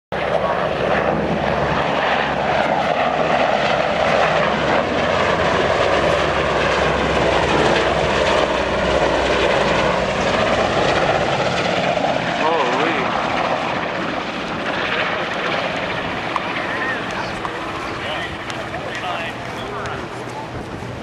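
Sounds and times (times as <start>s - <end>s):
airplane engine noise: 0.1s - 21.0s.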